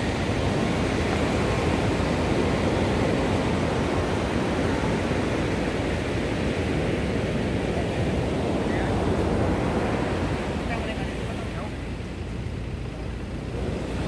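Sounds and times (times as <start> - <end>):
surf rushing: 0.0 - 14.0
wind buffeting microphone: 0.0 - 14.0.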